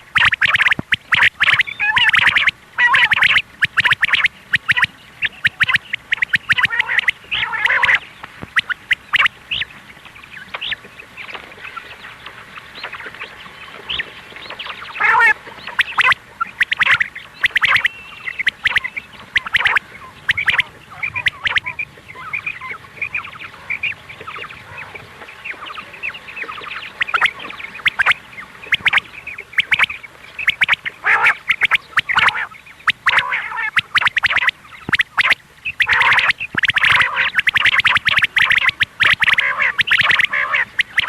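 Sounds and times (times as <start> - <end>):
quail calling: 0.0 - 41.0.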